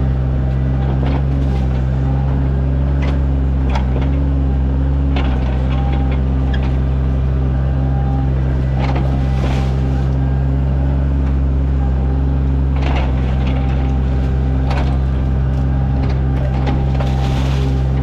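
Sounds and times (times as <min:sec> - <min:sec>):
diesel engine running: 0:00.0 - 0:18.0
excavator clatters: 0:00.6 - 0:07.4, 0:08.0 - 0:11.5, 0:12.6 - 0:18.0.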